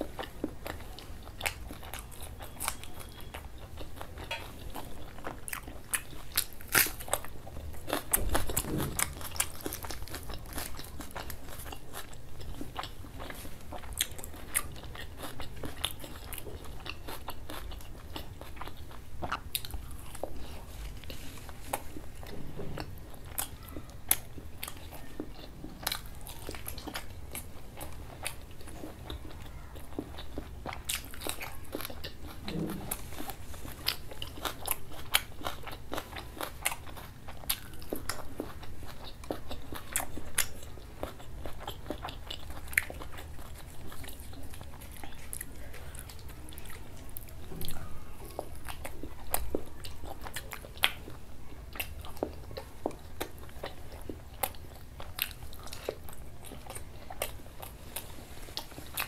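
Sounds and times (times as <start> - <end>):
person chewing and biting: 0.0 - 59.0.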